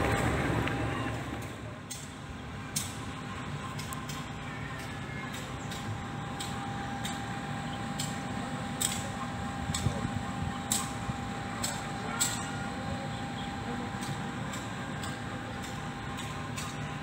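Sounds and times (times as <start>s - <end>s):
faint constant whine: 0.0s - 17.0s
train rumbling: 0.0s - 17.0s
wheels clicking over rail joints: 0.0s - 17.0s.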